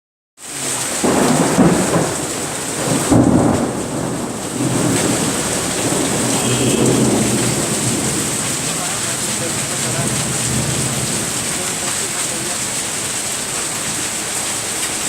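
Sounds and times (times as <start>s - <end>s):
heavy rain pouring: 0.4s - 15.0s
thunder rumbling: 0.9s - 13.1s.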